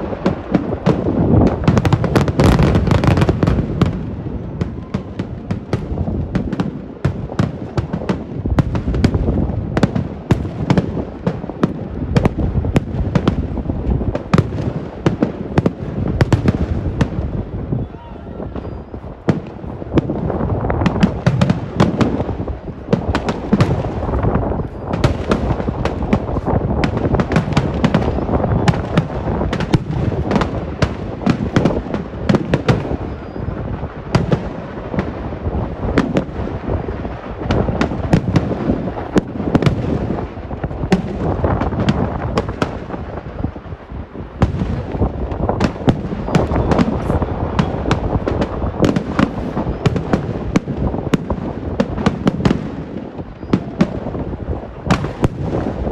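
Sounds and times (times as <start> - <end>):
rapid firework bangs: 0.0 - 17.8, 18.5 - 55.9.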